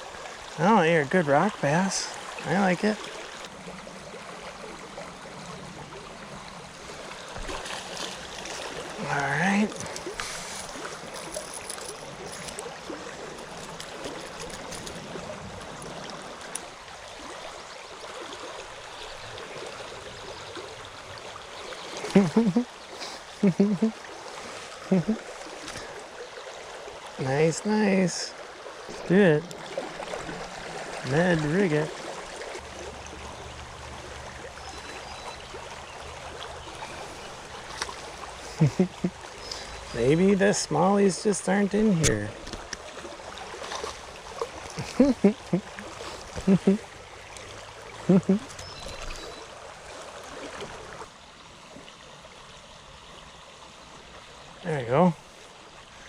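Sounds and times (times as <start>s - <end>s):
water running over rocks: 0.0s - 56.0s.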